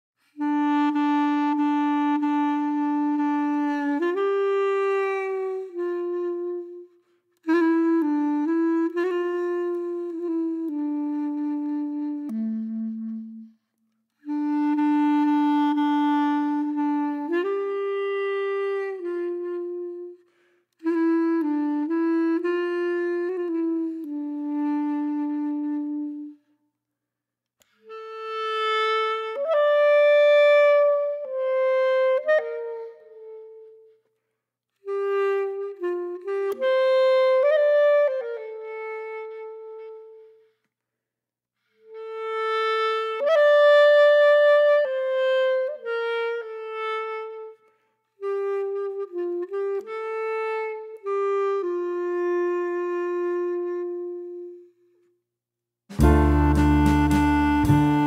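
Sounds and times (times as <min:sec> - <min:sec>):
woodwind melody: 0:00.2 - 0:26.7, 0:27.6 - 0:40.8, 0:41.6 - 0:55.2, 0:55.9 - 0:58.0.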